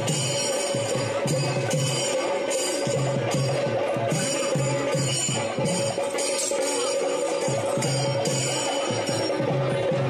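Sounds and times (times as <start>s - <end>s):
drums beating: 0.0s - 10.0s
jingling metal percussion: 0.0s - 10.0s.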